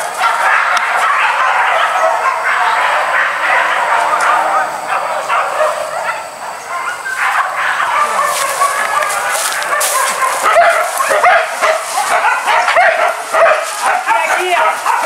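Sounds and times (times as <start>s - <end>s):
hunting dogs yelping and barking: 0.0s - 15.0s.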